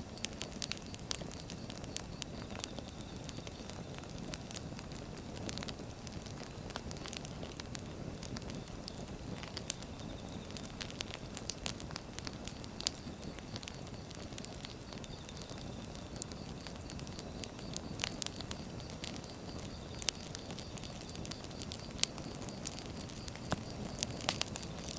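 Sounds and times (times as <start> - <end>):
burning logs crackling and popping: 0.0 - 24.9
low rumble of flames: 0.0 - 24.9.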